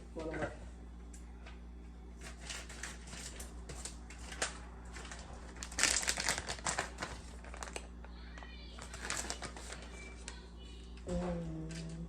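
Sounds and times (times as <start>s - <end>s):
crinkling handling noise: 1.4s - 12.0s.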